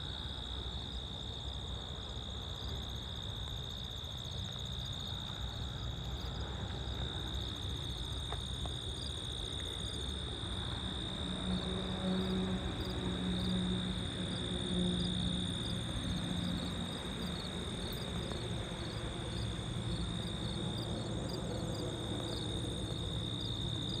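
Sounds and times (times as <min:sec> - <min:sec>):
insects buzzing: 0:00.1 - 0:24.0.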